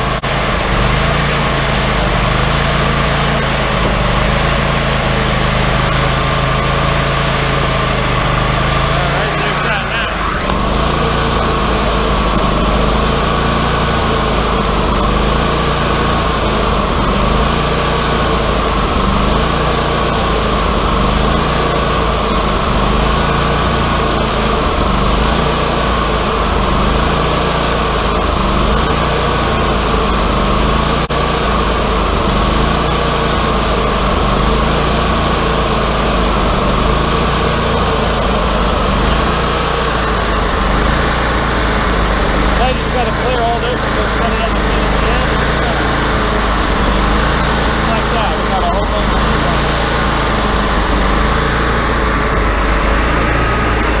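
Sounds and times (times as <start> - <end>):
band sawmill engine: 0.0 - 54.0
constant high whine: 0.0 - 54.0.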